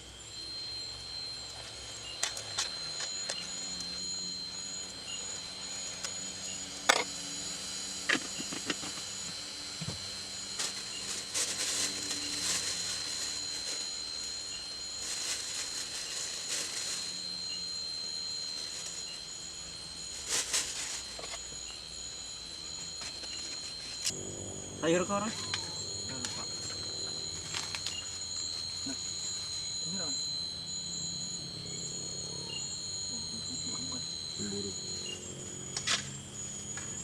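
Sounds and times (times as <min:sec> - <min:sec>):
high-pitched insect drone: 0:00.0 - 0:37.0
pulsing insect call: 0:00.0 - 0:37.0.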